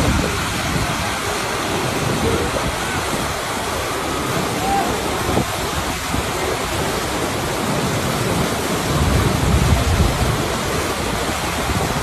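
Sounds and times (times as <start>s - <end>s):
breaking water rushing: 0.0s - 12.0s
wind buffeting microphone: 0.0s - 12.0s.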